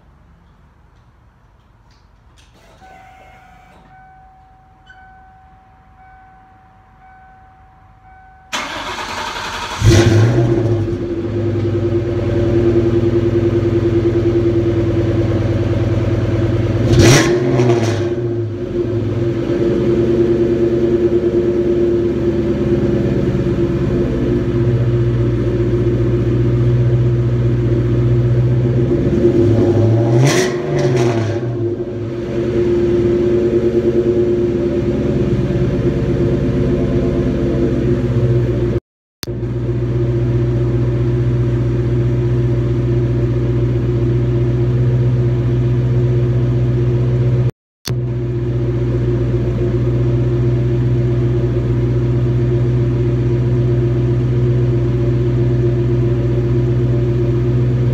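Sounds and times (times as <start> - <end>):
car engine starting and idling: 8.0 - 57.9.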